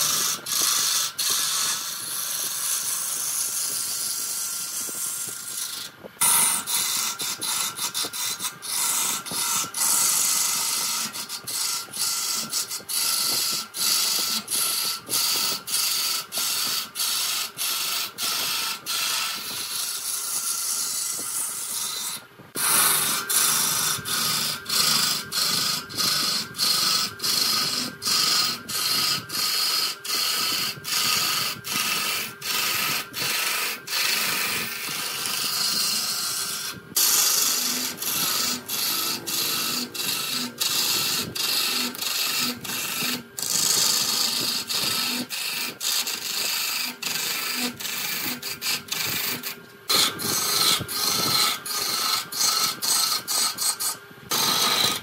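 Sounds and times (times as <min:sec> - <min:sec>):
wood lathe cutting hiss: 0:00.0 - 0:55.0.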